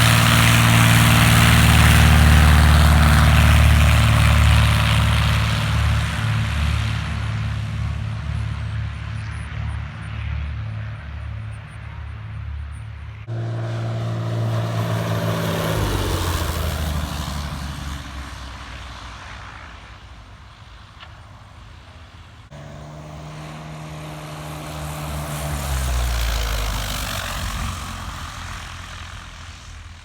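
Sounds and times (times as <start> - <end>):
propeller airplane passing by: 0.0 - 20.8, 22.4 - 30.0.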